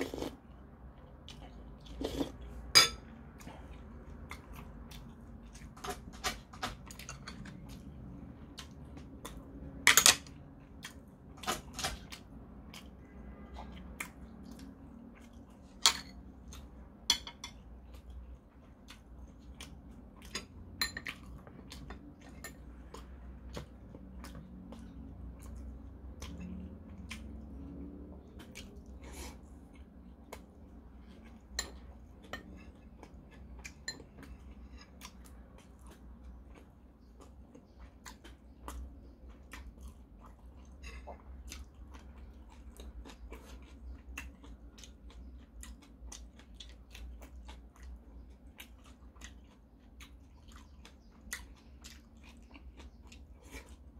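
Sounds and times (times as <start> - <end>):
low steady hum: 0.0 - 53.9
person chewing food: 0.0 - 53.9.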